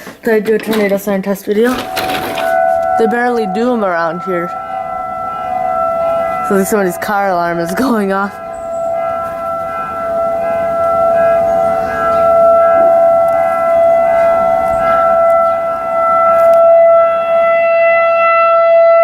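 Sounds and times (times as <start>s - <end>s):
warning siren steady tone: 1.6s - 19.0s.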